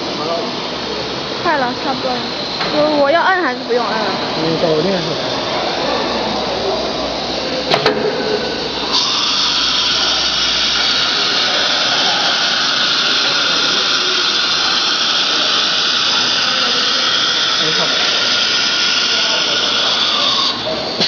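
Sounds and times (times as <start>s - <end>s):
router spindle whine and hiss: 0.0s - 21.0s.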